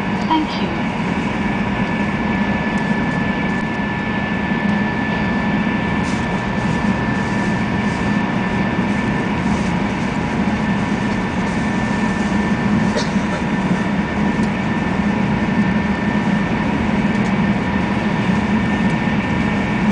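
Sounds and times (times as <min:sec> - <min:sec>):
train rumble and rushing: 0:00.0 - 0:19.9.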